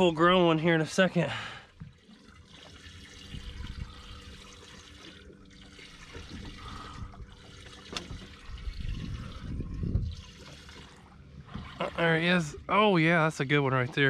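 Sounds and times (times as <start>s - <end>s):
faint steady hum: 0.0s - 14.0s
water lapping against boat hull: 0.0s - 14.0s.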